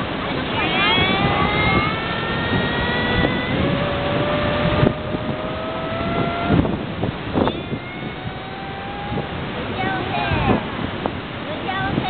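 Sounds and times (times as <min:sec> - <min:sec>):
engine revving up: 0:00.0 - 0:10.9
wind noise: 0:00.0 - 0:12.0.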